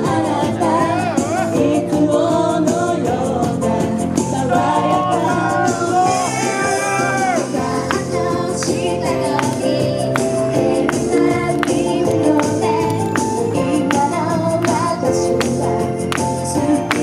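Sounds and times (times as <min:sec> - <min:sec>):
female group singing pop: 0:00.0 - 0:06.4, 0:07.3 - 0:17.0.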